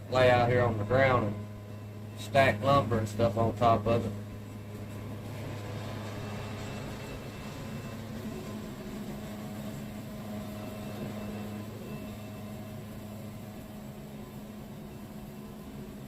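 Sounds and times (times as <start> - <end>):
band sawmill humming: 0.0 - 16.0.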